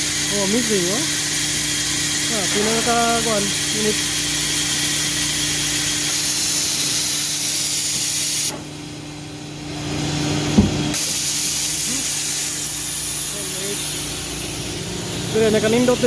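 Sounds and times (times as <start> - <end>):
coolant mist hissing: 0.0 - 8.5, 10.9 - 16.0
motor hum: 0.0 - 16.0.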